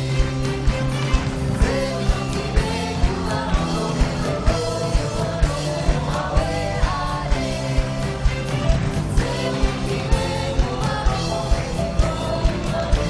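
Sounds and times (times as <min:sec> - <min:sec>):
keyboard: 0:00.0 - 0:13.0
live band playing upbeat song: 0:00.0 - 0:13.0
steady drum beat: 0:00.0 - 0:13.0.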